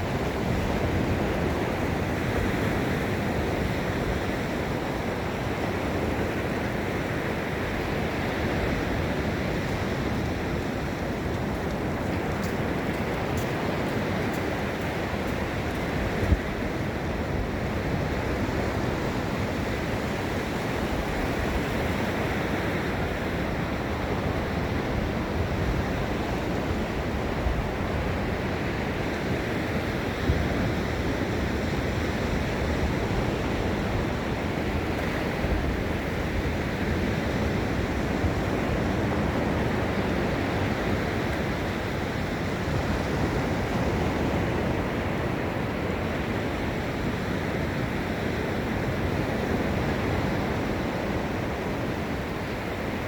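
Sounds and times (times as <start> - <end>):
surf washing onto beach: 0.0 - 53.0.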